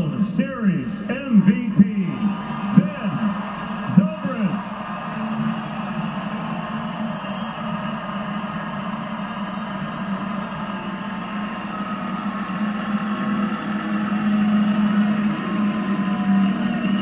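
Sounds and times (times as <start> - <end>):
stadium crowd cheering on television: 0.0 - 17.0.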